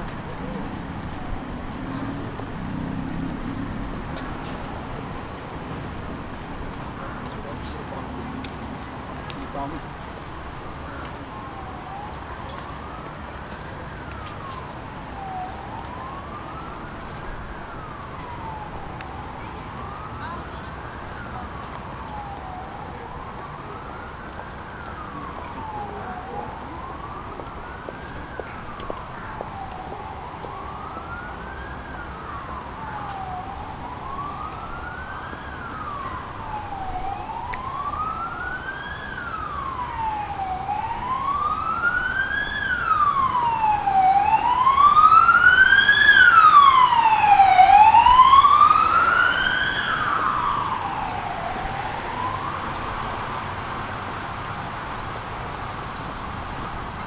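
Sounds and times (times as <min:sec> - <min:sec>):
emergency siren wailing: 0:00.0 - 0:57.0.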